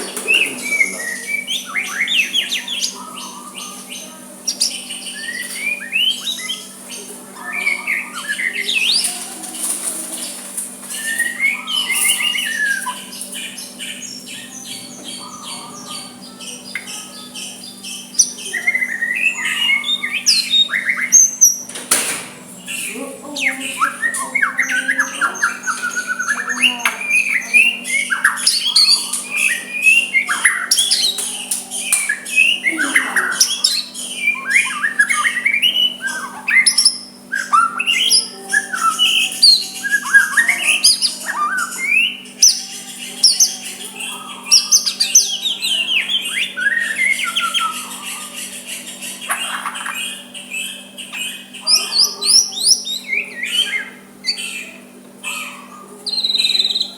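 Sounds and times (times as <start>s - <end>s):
bird singing whistles and chatter: 0.0s - 56.9s.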